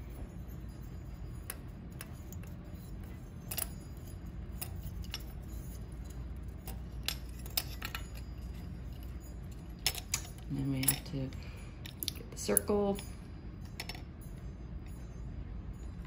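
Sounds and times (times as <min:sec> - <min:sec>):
light metallic clicks and clinks: 0:00.0 - 0:16.0.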